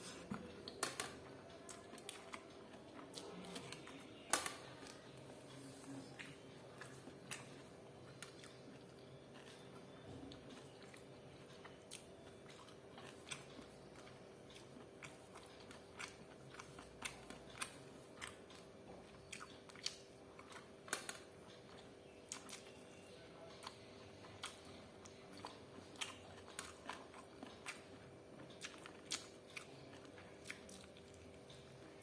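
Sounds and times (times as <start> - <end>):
person chewing crunchy food: 1.6 - 32.0.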